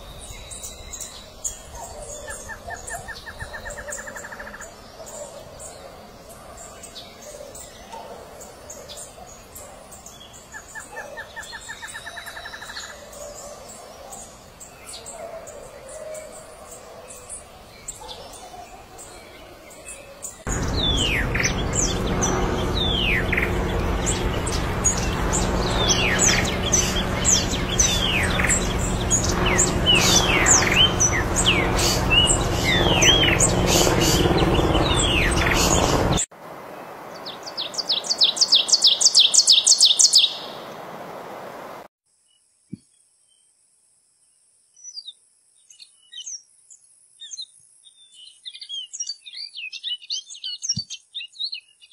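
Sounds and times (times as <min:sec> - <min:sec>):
songbirds chirping: 0:00.0 - 0:43.5.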